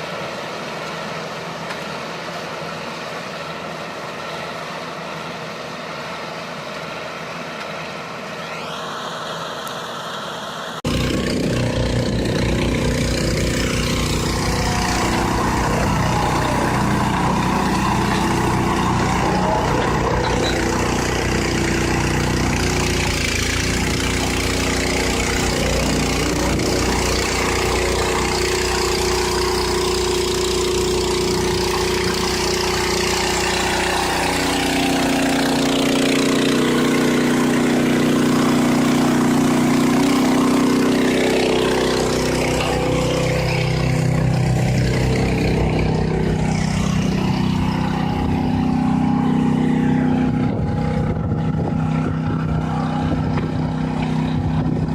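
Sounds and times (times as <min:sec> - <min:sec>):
farm machine engine revving: 0:00.0 - 0:54.9.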